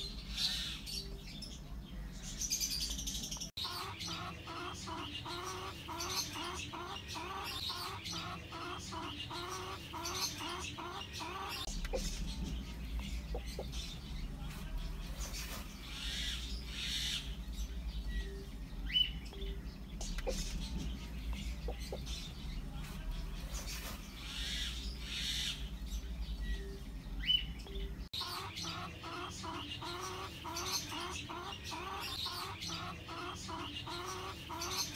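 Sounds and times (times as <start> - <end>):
hen clucking: 3.5 - 17.4, 18.2 - 25.7, 27.8 - 34.9.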